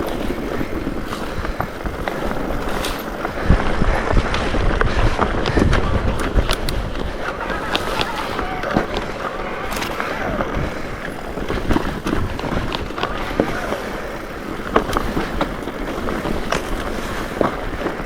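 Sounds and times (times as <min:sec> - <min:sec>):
bike tyres rumbling: 0:00.0 - 0:18.0
wheels clicking and knocking on rocks: 0:00.0 - 0:18.0
wind on microphone: 0:00.0 - 0:18.0.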